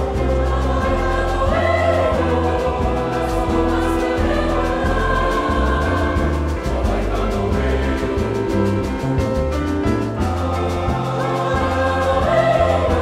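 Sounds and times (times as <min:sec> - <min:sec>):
low instrumental accompaniment: 0:00.0 - 0:13.0
mixed choir singing: 0:00.0 - 0:13.0
quick percussive beat: 0:00.0 - 0:13.0.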